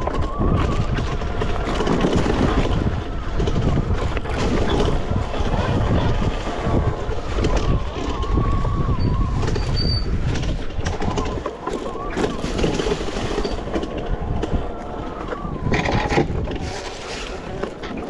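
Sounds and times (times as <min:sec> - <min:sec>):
bike jolts and rattles: 0:00.0 - 0:18.0
wind rumbling on microphone: 0:00.0 - 0:18.0.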